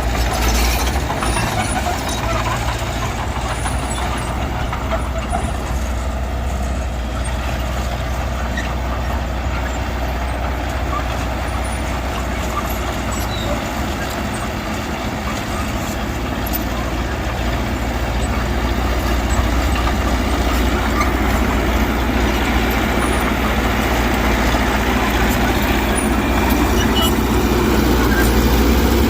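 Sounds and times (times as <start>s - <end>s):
diesel earthmoving machinery running: 0.0s - 29.0s.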